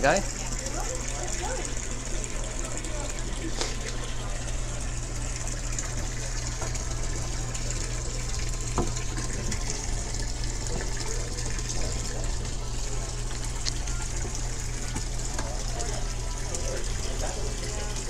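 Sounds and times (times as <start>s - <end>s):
low steady hum: 0.0s - 18.0s
water splashing in tub: 0.0s - 18.0s.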